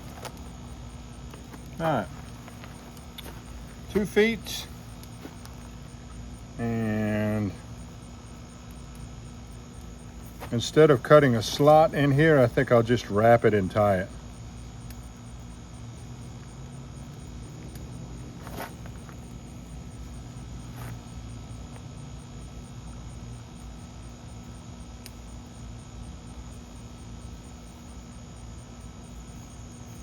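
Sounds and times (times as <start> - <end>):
insect chirping: 0.0 - 30.0
low steady hum: 0.0 - 30.0.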